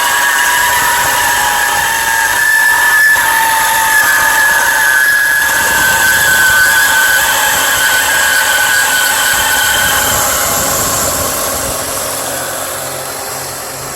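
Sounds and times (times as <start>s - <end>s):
high-pitched engine squeal: 0.0s - 13.9s.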